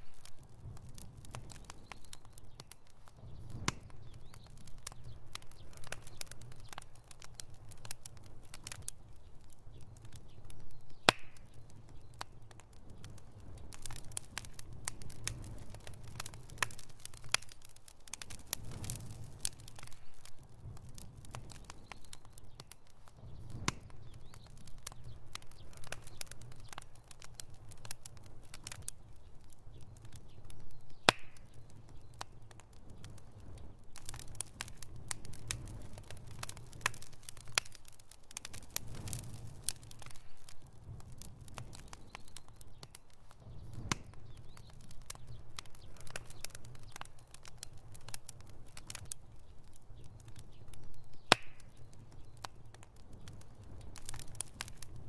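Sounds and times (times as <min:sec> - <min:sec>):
bonfire crackling and popping: 0:00.0 - 0:55.0
low steady fire rumble: 0:00.0 - 0:55.0.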